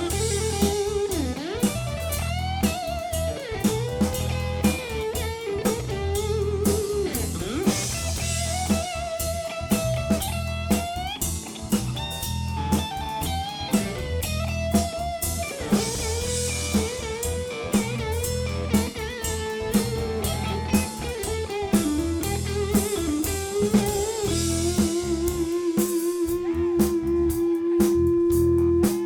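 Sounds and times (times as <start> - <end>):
electric guitar lead: 0.0 - 27.8
bass guitar: 0.0 - 29.0
drum beat: 0.0 - 29.0.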